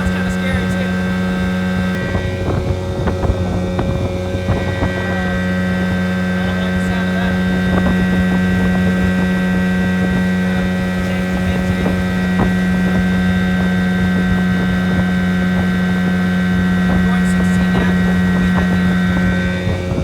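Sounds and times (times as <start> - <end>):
outboard motor running: 0.0 - 20.0
wind on microphone: 0.0 - 20.0.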